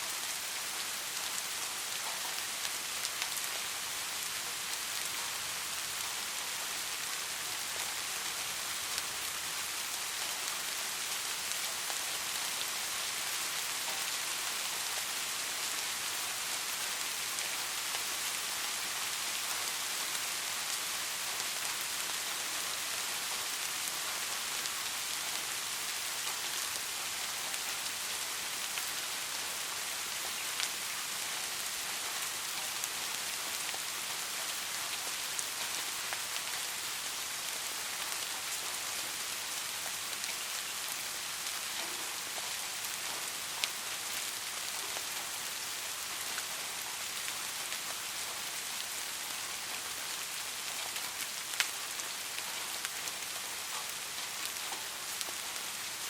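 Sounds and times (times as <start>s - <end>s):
soft rain falling: 0.0s - 56.0s.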